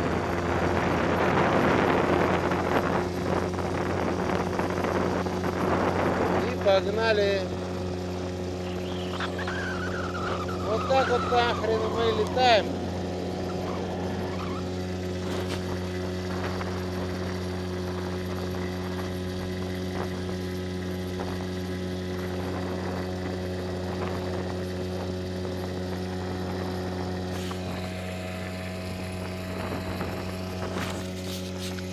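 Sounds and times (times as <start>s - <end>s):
outboard motor running: 0.0s - 31.9s.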